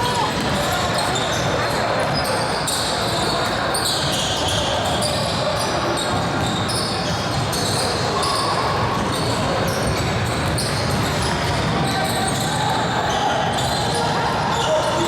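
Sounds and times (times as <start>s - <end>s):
voices echoing in hall: 0.0s - 15.0s.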